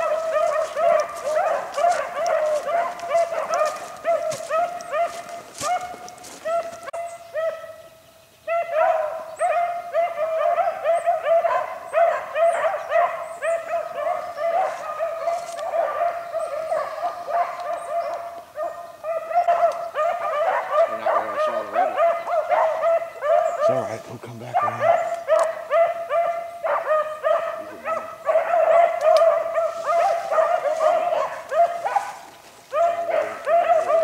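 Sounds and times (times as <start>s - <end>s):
beagles baying: 0.0s - 34.0s.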